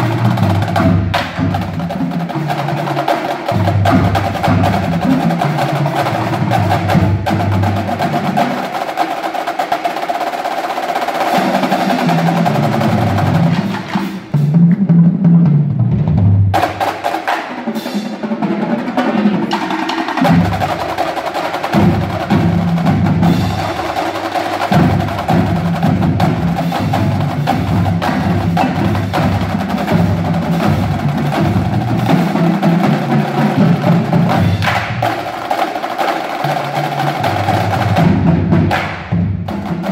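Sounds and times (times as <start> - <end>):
snare drums: 0.0 - 39.9
tenor drums: 0.0 - 39.9.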